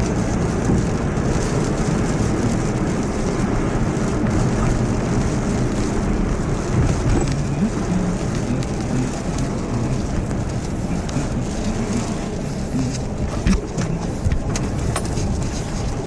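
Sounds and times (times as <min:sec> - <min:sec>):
strong wind and rain rushing: 0:00.0 - 0:16.0.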